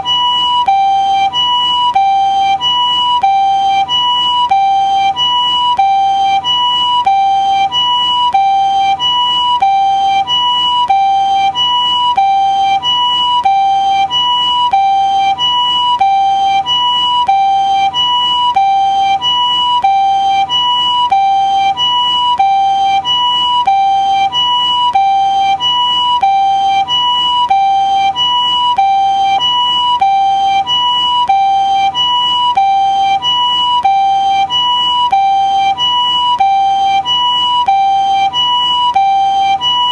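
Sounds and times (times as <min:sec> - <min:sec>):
two-tone ambulance siren: 0:00.0 - 0:39.9.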